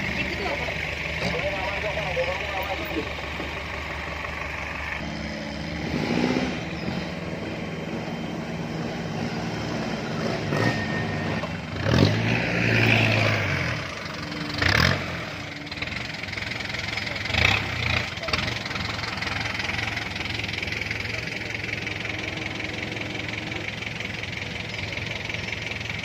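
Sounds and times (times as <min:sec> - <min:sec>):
engine revving under load: 0:04.6 - 0:26.0.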